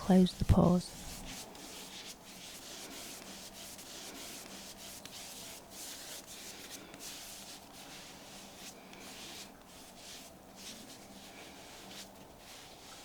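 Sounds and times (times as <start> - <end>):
skin being wiped and rubbed: 0.0 - 13.0.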